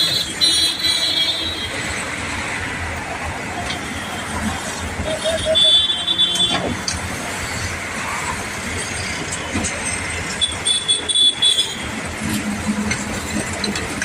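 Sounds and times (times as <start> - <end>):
excavator working: 0.0 - 14.0.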